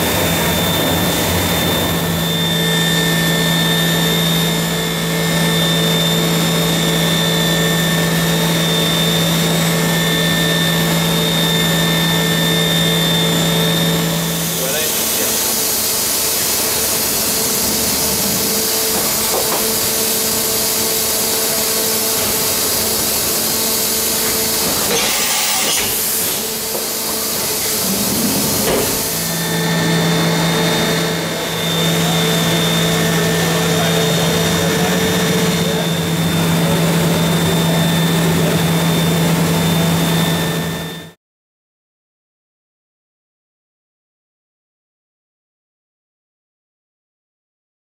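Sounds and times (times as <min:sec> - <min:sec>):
machine hum with whine: 0:00.0 - 0:41.2.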